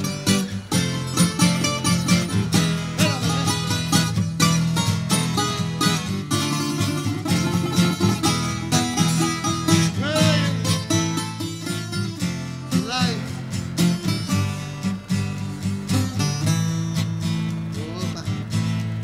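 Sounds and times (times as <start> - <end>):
bluegrass acoustic string music: 0.0 - 19.0.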